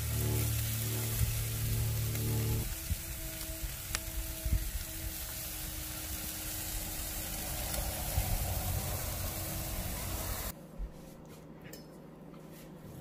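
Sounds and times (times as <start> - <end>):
steak sizzling on a grill: 0.0 - 10.5.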